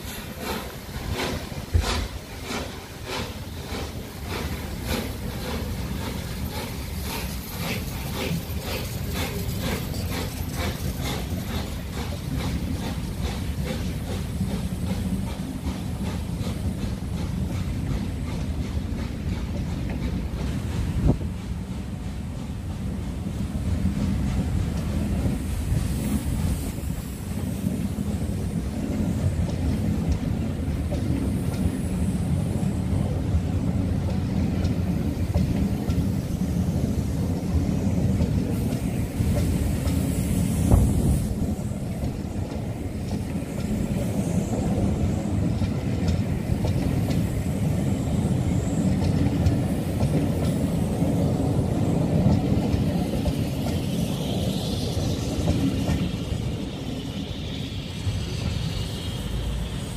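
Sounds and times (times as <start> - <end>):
wheels clicking over rail joints: 0.0 - 31.9, 32.9 - 59.9
train coaches rumbling past: 0.0 - 59.9.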